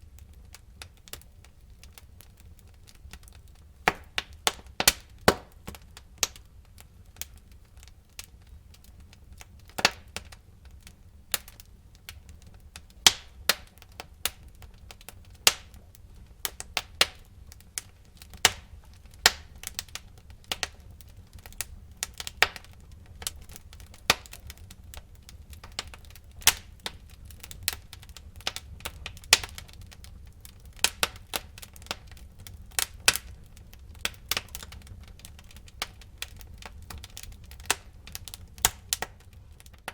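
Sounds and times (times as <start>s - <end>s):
low rumble of fire: 0.0s - 39.9s
wood fire crackling and popping: 0.0s - 39.9s.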